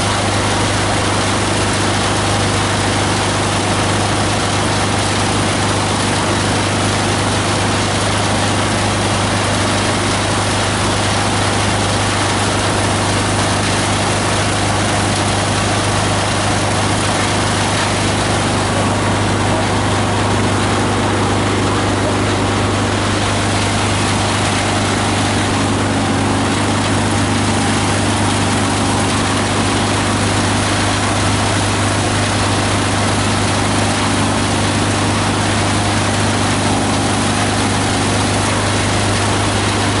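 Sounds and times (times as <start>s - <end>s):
diesel engine humming: 0.0s - 40.0s
grinder machine noise: 0.0s - 40.0s.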